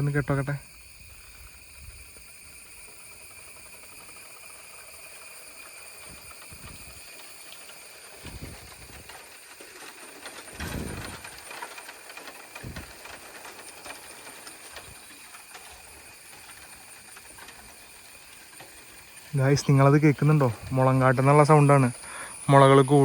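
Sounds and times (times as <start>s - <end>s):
insects chorus: 0.0s - 23.0s
bamboo stems creaking: 3.5s - 22.4s.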